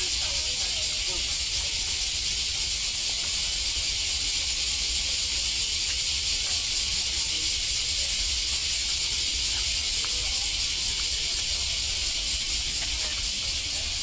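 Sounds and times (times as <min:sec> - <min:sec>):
loud high hiss: 0:00.0 - 0:14.0.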